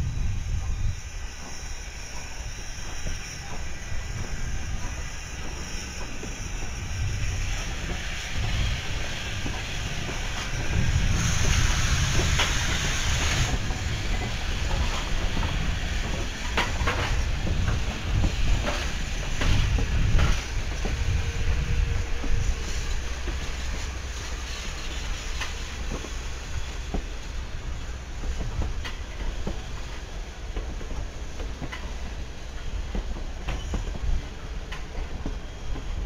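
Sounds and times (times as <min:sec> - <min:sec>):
steam hissing: 0:00.0 - 0:36.0.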